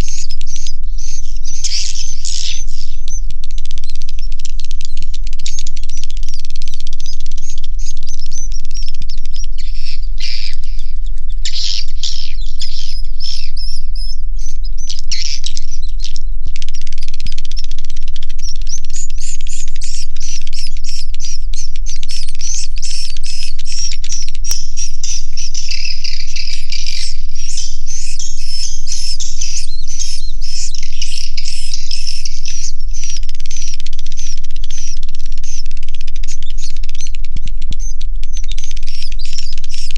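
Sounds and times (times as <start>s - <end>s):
swiftlets chirping and twittering: 0.0s - 3.2s, 3.8s - 39.9s
steady low hum: 0.0s - 39.9s.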